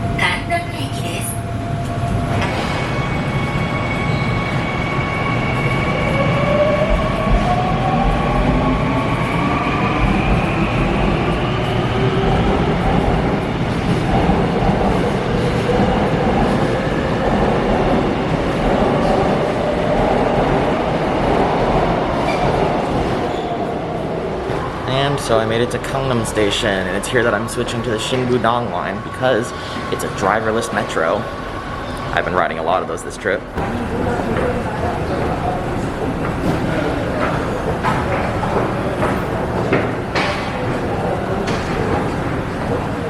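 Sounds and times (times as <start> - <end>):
rumble of wheels on track: 0.0 - 43.0.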